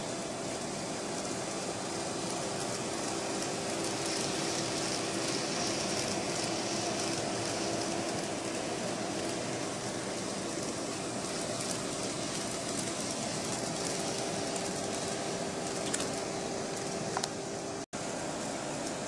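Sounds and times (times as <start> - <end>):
model train motors whirring: 0.0 - 19.0.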